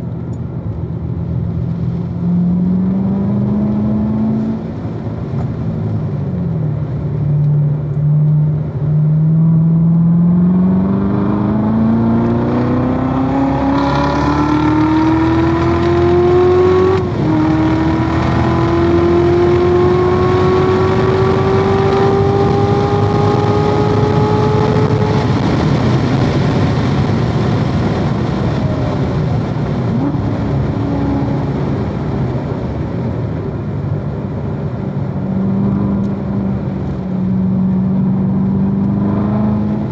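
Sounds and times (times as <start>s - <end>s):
car engine accelerating hard: 0.0s - 39.9s
wind and tyre noise: 0.0s - 39.9s.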